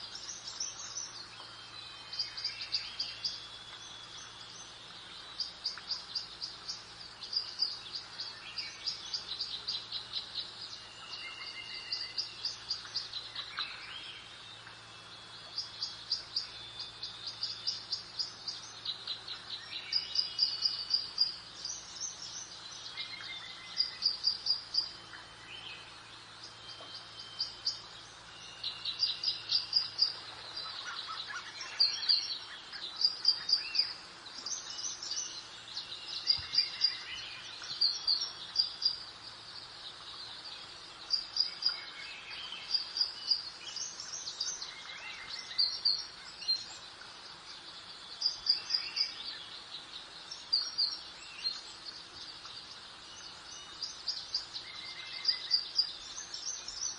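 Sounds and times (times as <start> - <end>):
birds chirping: 0.0 - 56.9
soft steady hiss: 0.0 - 56.9.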